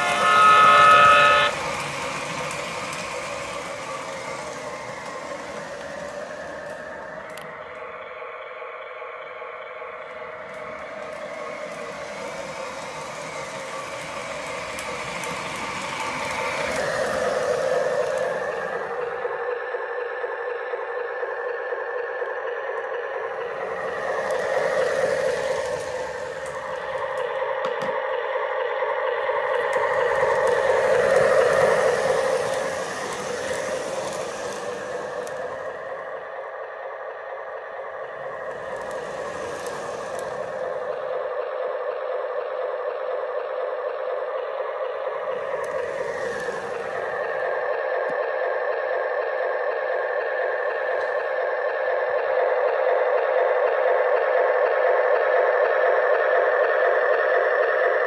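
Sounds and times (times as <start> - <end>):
model train running on track: 0.0 - 58.0.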